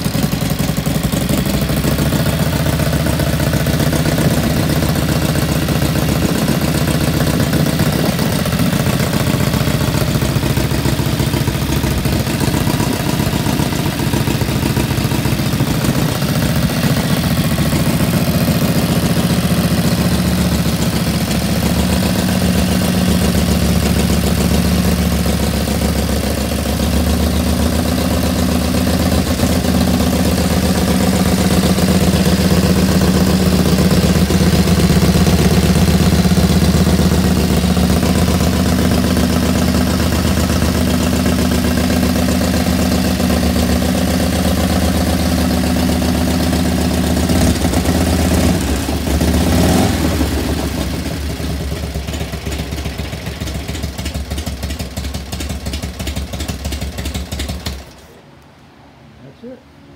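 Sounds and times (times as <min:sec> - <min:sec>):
motorcycle engine idling: 0:00.0 - 0:58.2.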